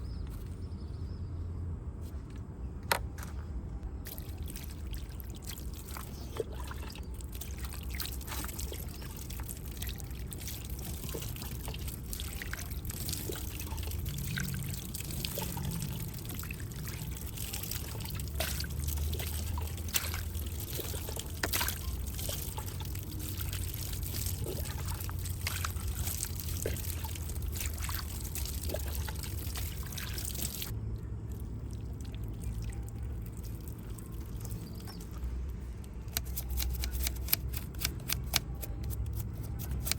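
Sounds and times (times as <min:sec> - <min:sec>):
water pouring and trickling: 0:04.0 - 0:39.9.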